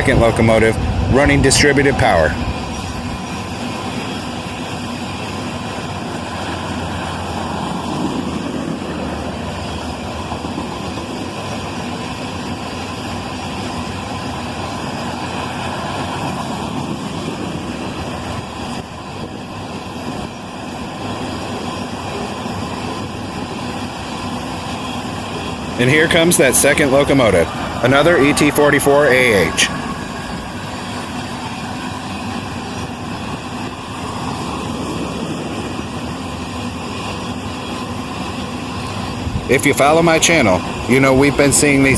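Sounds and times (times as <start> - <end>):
freight train wheels rumbling on rails: 0.0 - 41.9.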